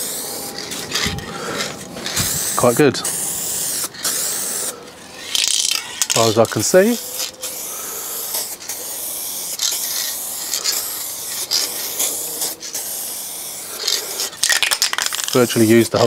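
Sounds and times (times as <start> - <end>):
spray paint can hissing: 0.0 - 16.0.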